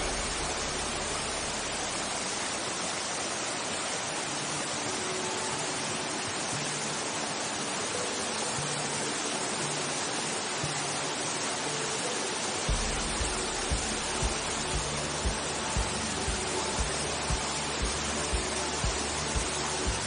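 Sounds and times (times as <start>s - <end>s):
stream water rushing over rocks: 0.0s - 20.0s.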